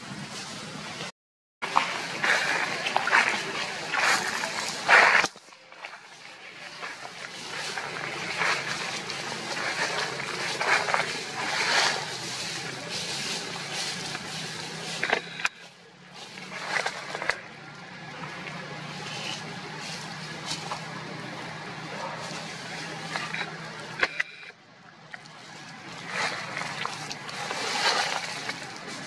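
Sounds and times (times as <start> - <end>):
dry leaves rustling and crunching: 1.6 - 24.0, 25.2 - 29.0.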